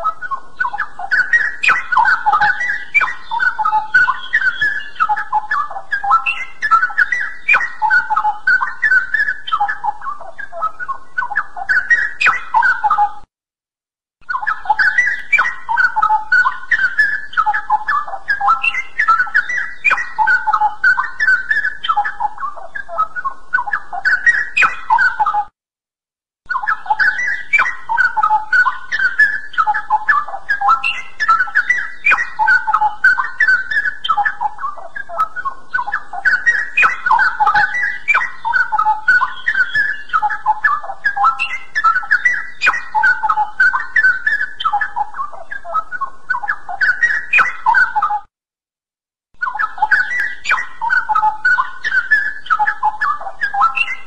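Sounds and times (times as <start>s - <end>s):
bulbul singing: 0.0s - 13.2s, 14.2s - 25.5s, 26.5s - 48.3s, 49.4s - 54.0s.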